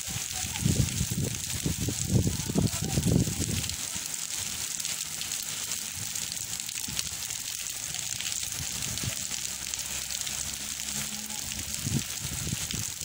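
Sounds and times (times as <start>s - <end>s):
heavy rain on pavement and trees: 0.0s - 13.0s.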